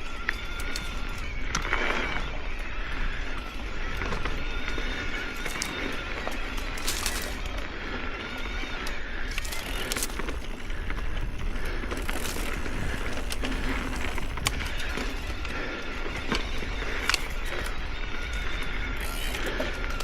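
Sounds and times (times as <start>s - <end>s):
bike clicks and rattles: 0.0s - 20.0s
tyre noise on dirt: 0.0s - 20.0s.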